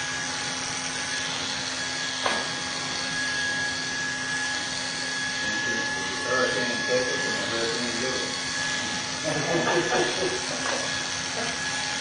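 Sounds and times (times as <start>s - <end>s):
electric hair clippers humming: 0.0s - 12.0s.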